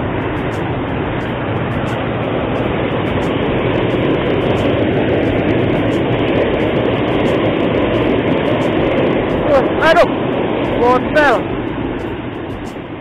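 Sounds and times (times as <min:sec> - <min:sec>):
river water pouring over a weir: 0:00.0 - 0:13.0.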